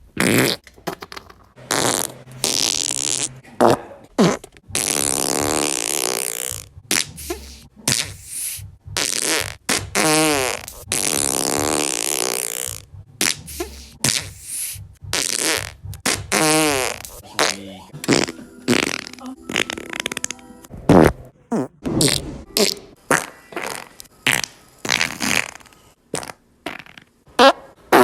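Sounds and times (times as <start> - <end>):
farts: 0.2 - 0.6, 1.7 - 8.2, 9.0 - 14.4, 15.1 - 28.0.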